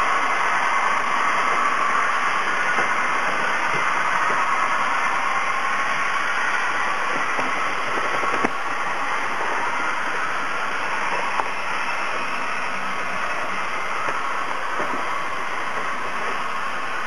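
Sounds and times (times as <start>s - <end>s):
model train motor whir: 0.0s - 17.0s.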